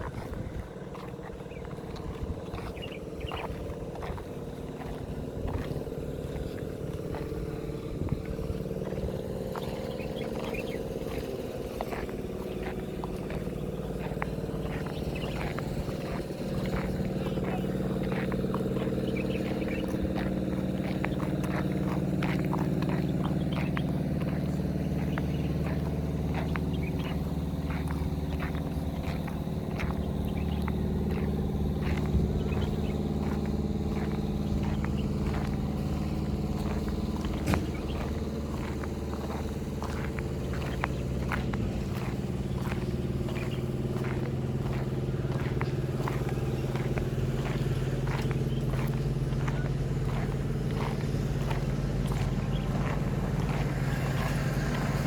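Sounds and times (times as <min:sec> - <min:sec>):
car engine hum and road noise: 0:00.0 - 0:55.0.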